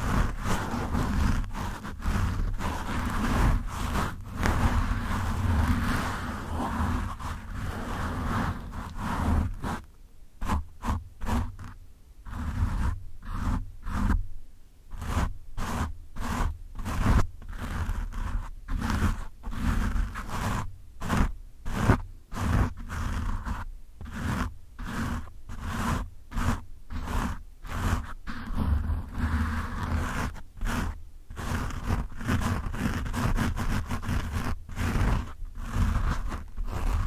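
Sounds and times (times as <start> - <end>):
fingertips scratching microphone windscreen: 0.0 - 14.2, 14.9 - 37.0.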